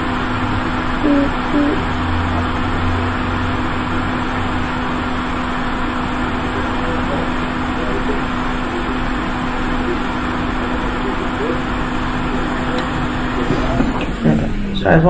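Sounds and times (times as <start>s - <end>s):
constant low hum: 0.0s - 15.0s
hot air station blowing: 0.0s - 15.0s.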